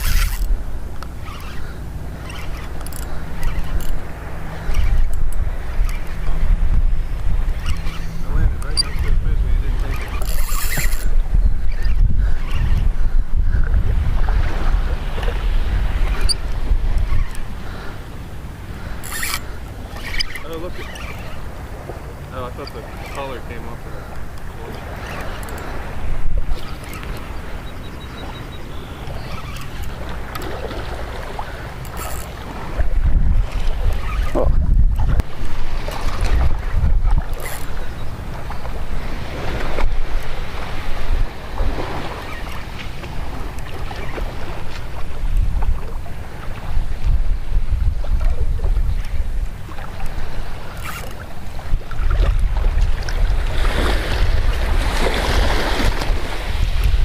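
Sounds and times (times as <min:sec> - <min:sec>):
sea wash: 0:00.0 - 0:57.0
surf: 0:00.0 - 0:57.0
wind: 0:00.0 - 0:57.0
wind buffeting microphone: 0:00.0 - 0:57.0.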